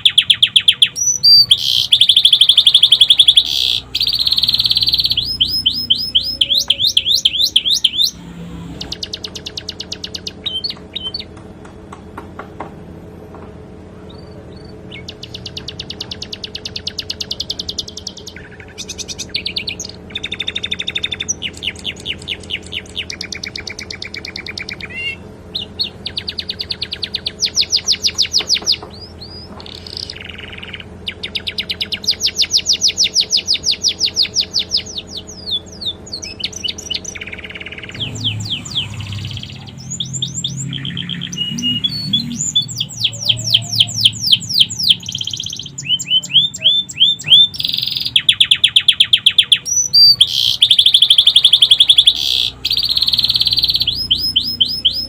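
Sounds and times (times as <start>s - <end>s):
canary singing trills: 0.0s - 11.4s, 14.0s - 55.0s.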